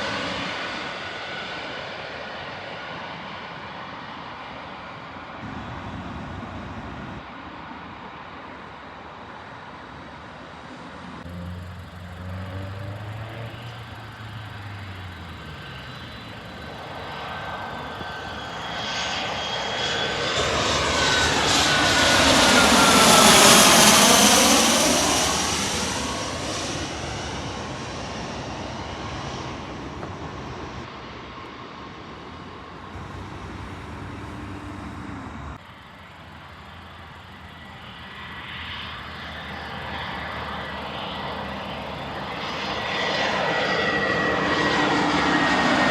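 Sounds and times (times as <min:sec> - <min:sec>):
aircraft engine passing overhead: 0:00.0 - 0:45.9.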